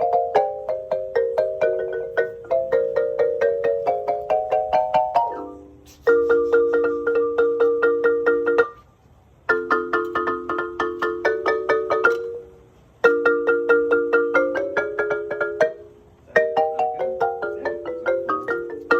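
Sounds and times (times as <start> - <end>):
marimba chords: 0.0 - 8.9, 9.5 - 18.9.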